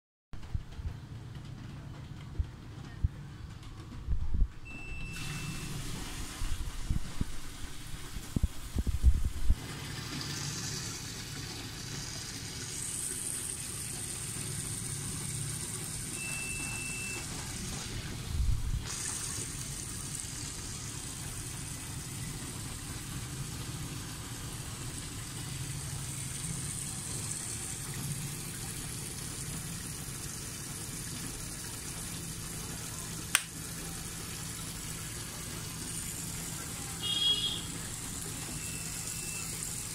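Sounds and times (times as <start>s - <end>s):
water running and splashing: 5.2s - 39.9s.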